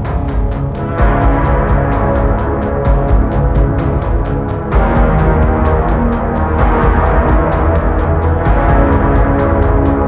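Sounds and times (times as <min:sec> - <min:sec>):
steady ticking beat: 0:00.0 - 0:10.0
sustained low music tones: 0:00.0 - 0:10.0.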